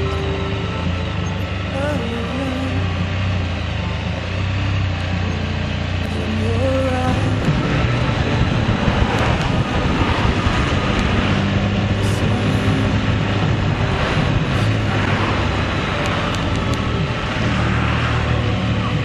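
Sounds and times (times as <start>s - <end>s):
road and wind noise: 0.0s - 19.0s
vehicle engine running: 0.0s - 19.0s.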